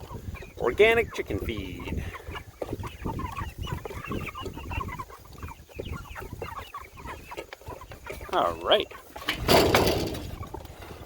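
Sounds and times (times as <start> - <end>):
beaks pecking at feed: 0.0 - 9.4
chickens clucking and chirping: 0.0 - 11.0.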